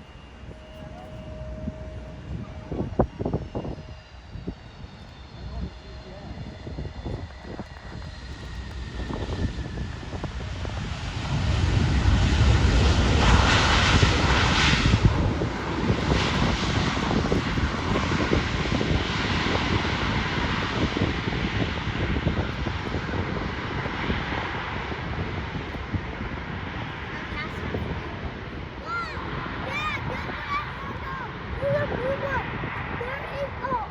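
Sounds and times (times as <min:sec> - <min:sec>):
airliner engines passing by: 0:00.0 - 0:33.9.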